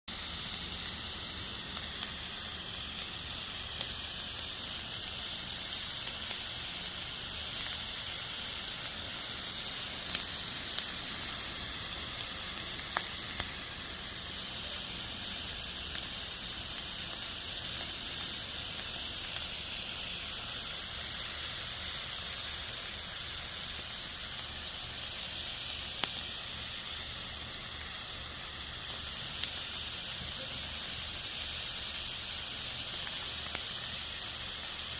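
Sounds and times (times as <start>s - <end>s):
meat sizzling on a grill: 0.1s - 34.9s.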